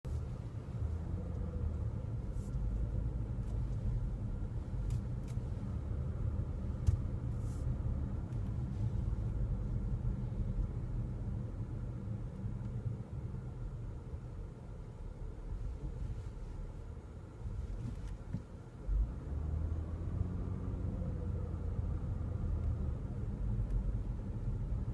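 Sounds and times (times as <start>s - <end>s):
car road and engine rumble: 0.0s - 24.9s.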